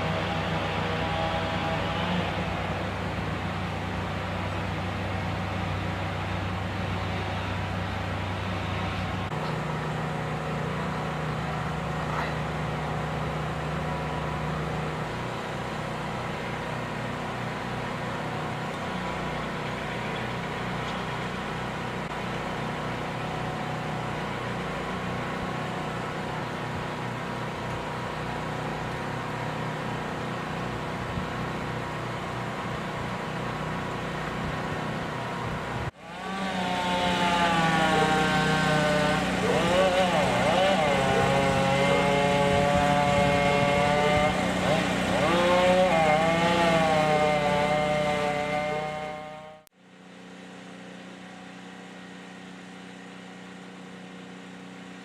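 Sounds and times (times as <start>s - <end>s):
machine engine humming: 0.0s - 55.0s.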